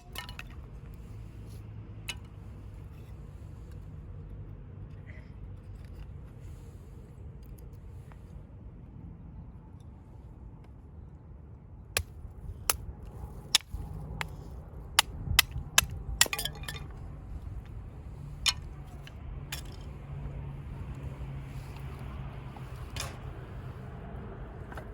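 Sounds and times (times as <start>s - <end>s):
low background rumble: 0.0s - 24.9s.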